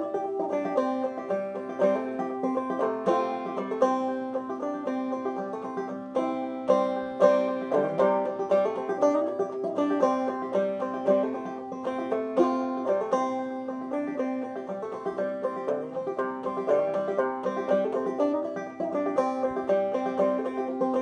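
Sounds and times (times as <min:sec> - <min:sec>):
banjo playing: 0:00.0 - 0:21.0.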